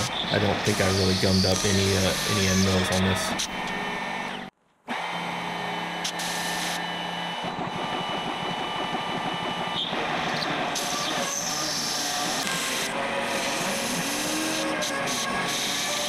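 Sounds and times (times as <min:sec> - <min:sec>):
router spindle whine cutting metal: 0:00.0 - 0:16.0.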